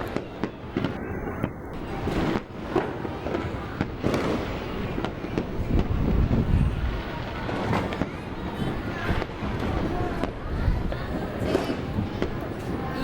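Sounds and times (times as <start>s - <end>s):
firecrackers crackling: 0.0s - 13.0s
firework bangs: 0.0s - 13.0s.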